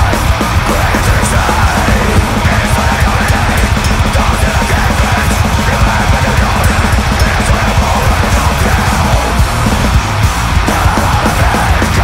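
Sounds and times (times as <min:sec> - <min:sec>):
distorted electric guitars: 0:00.0 - 0:12.0
fast dense drumming: 0:00.0 - 0:12.0.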